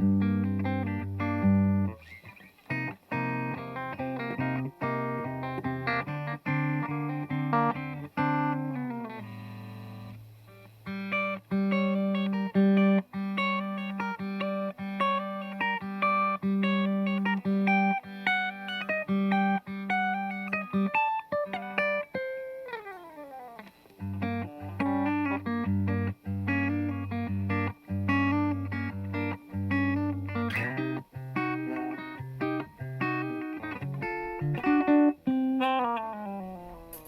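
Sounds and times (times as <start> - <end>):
clean electric guitar: 0.0 - 37.0.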